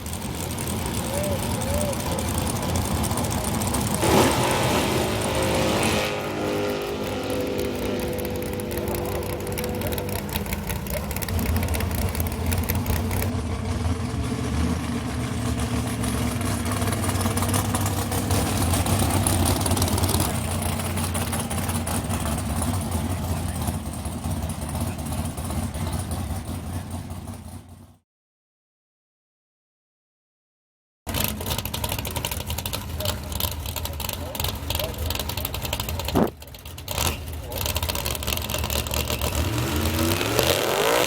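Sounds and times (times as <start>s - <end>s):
drag racing car engine running: 0.0s - 28.0s, 31.1s - 41.0s.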